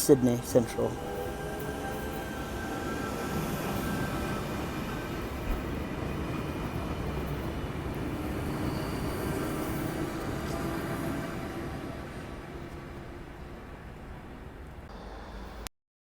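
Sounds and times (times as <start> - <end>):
electric train rail running noise: 0.0 - 15.7.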